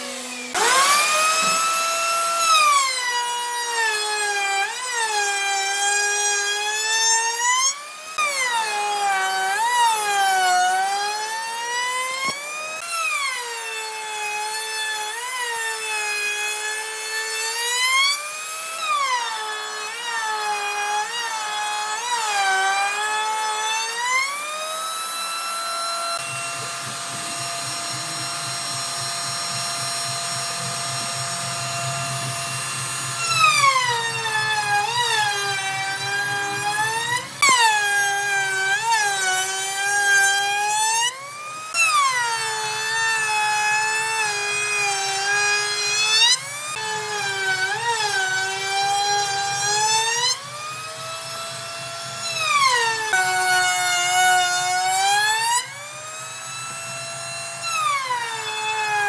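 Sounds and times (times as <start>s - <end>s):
electric power tool whining on wood: 0.0s - 59.0s.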